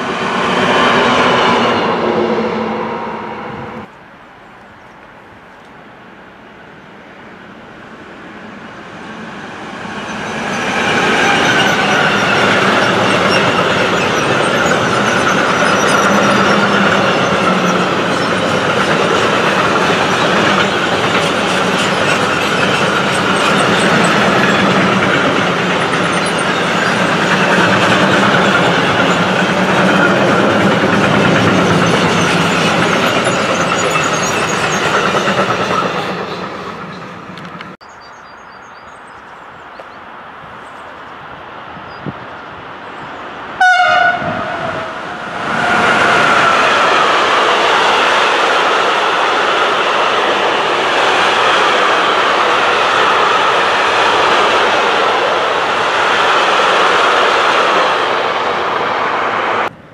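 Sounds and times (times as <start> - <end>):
freight train passing: 0.0 - 59.9
train wheels rolling on rails: 7.8 - 37.8, 41.9 - 59.9.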